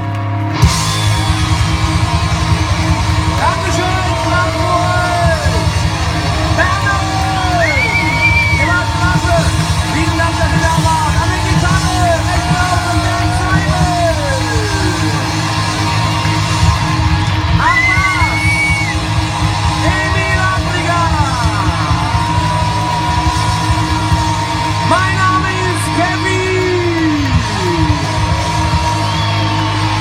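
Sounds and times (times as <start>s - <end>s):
live rock band playing: 0.0s - 30.0s
voices yelling and singing: 0.7s - 30.0s.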